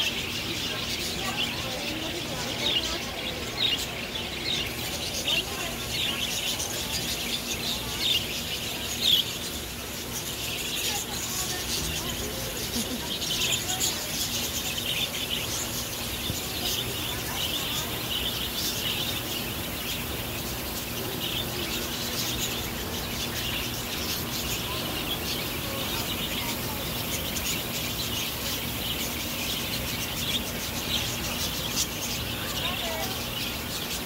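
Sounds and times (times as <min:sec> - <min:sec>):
budgerigars chirping: 0:00.0 - 0:34.0.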